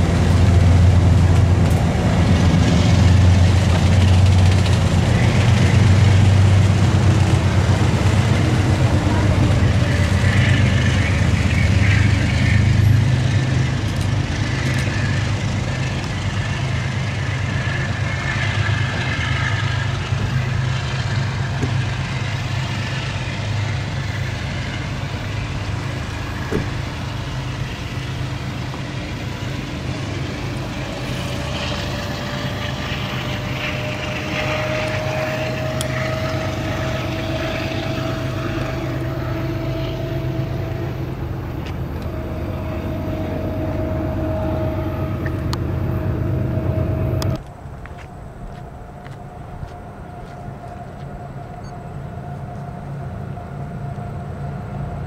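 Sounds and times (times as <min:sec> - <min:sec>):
diesel locomotive engine rumbling: 0:00.0 - 0:55.0.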